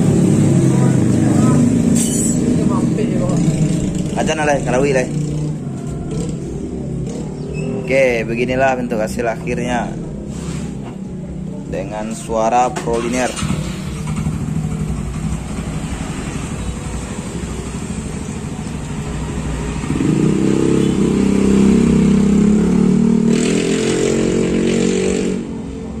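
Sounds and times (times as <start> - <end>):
scooter engine revving: 0.0 - 8.5, 12.9 - 26.0.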